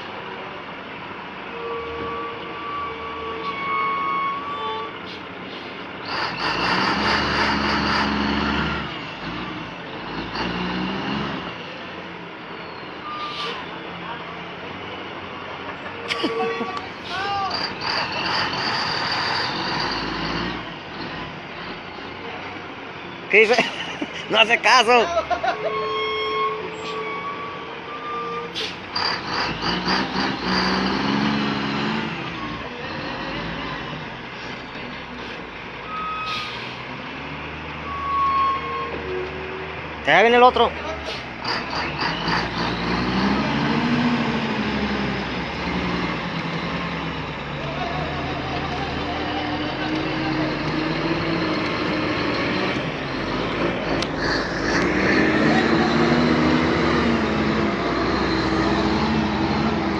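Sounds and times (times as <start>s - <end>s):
diesel truck engine under load: 2.2s - 59.9s.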